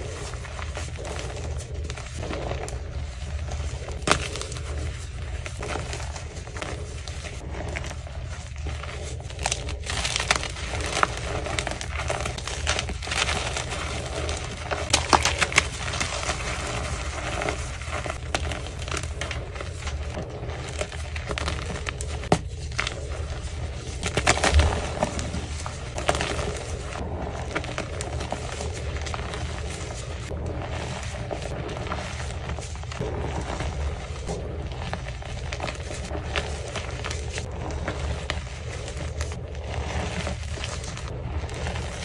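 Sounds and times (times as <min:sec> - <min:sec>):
hands crushing chalk: 0:00.0 - 0:42.0.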